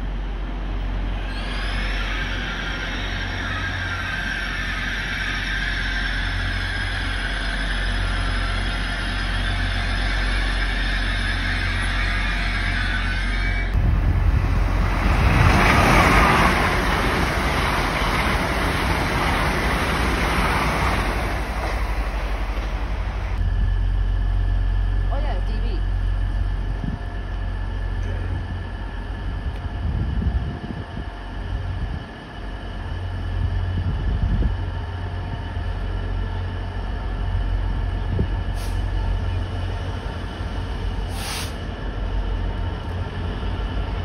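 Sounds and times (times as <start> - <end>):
approaching train rumble: 0.0 - 44.0
standing train hum and tones: 0.0 - 44.0.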